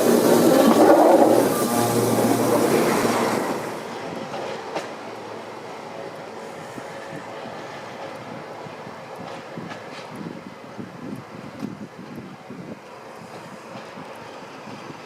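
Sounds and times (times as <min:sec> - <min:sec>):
passenger train passing: 0:00.0 - 0:15.0.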